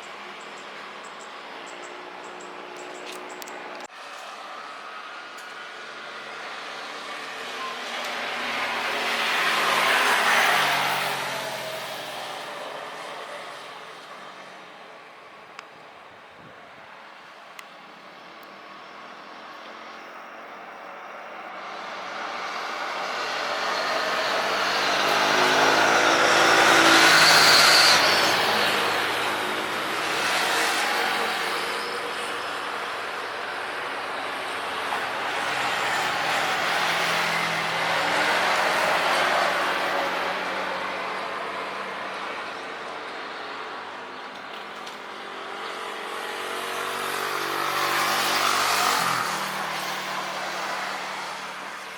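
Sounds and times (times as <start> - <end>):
vehicle passing by: 2.0 - 14.5, 21.4 - 43.8, 45.0 - 51.9.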